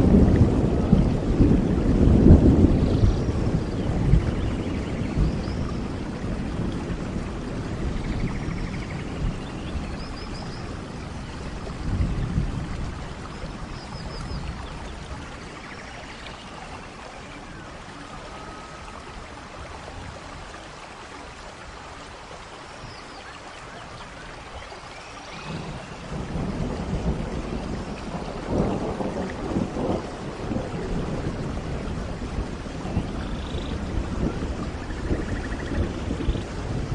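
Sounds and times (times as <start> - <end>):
low rolling thunder: 0.0 - 20.4, 25.3 - 36.9
steady rain: 0.0 - 36.9.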